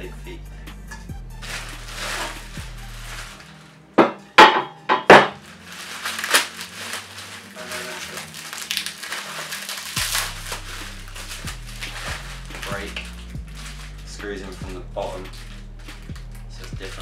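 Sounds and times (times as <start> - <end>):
bubble wrap crinkling: 1.2 - 3.8, 5.1 - 17.0
bubble wrap cracks: 1.3 - 3.7, 5.1 - 17.0.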